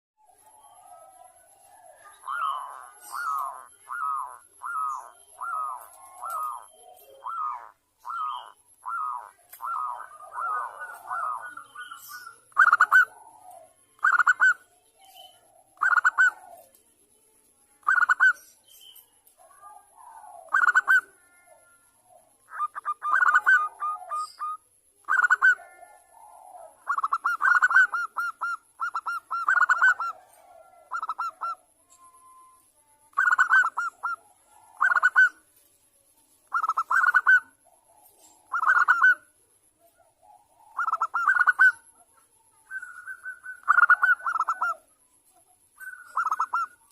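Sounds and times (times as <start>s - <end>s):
dove cooing in staccato bursts: 0.3s - 14.7s, 15.4s - 16.8s, 19.4s - 31.8s, 33.1s - 35.5s, 36.4s - 42.2s, 42.8s - 44.9s, 45.8s - 46.9s.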